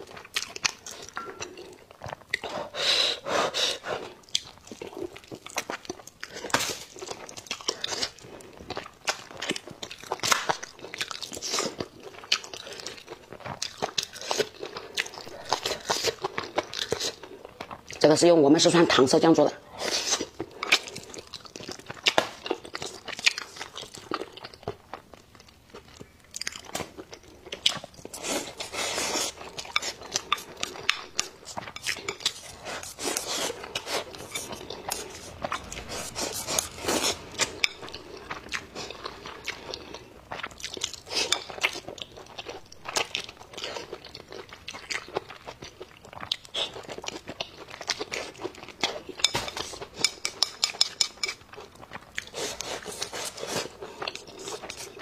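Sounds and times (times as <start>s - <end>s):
person chewing food: 0.0s - 18.0s, 19.7s - 55.0s.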